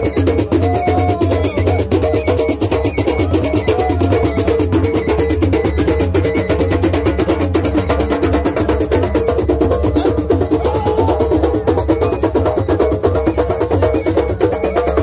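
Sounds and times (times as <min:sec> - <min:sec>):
drums and percussion playing: 0:00.0 - 0:15.0.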